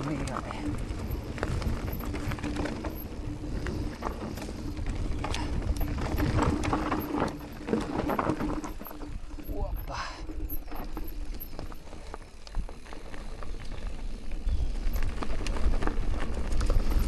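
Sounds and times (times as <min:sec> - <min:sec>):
bike chain and frame rattling: 0:00.0 - 0:17.0
wind rumble on microphone: 0:00.0 - 0:17.0.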